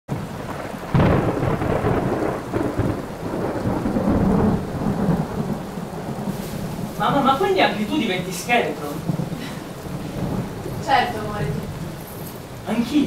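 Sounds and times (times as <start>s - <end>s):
loud thunder crack: 0.1s - 13.0s
steady rain: 0.1s - 13.0s
thunder rumbling: 0.1s - 13.0s.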